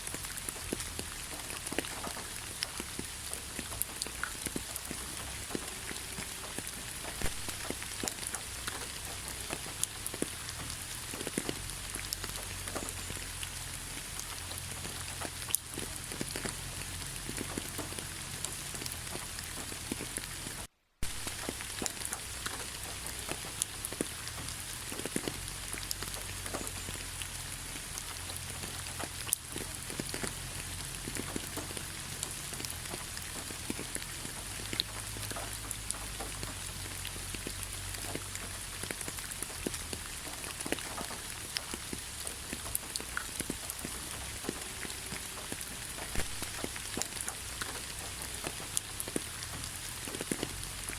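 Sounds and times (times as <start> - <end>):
rain falling: 0.0 - 50.9
raindrops ticking close by: 0.0 - 50.9.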